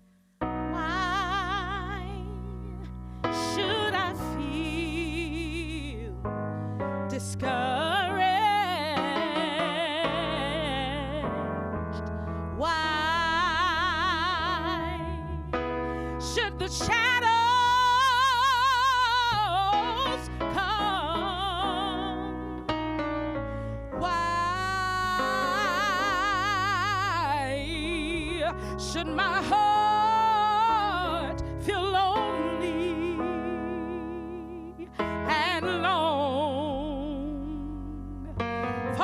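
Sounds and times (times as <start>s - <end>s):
woman singing with vibrato: 0.6s - 6.2s, 7.1s - 11.5s, 12.6s - 15.6s, 16.2s - 22.5s, 24.0s - 38.4s.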